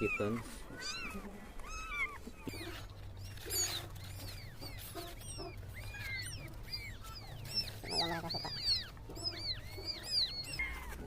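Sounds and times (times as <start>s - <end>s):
kittens mewing: 0.0s - 11.0s.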